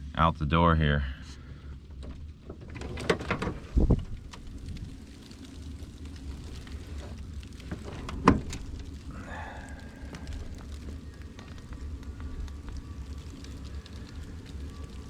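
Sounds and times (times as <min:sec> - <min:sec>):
wind rumble: 0:01.5 - 0:15.0.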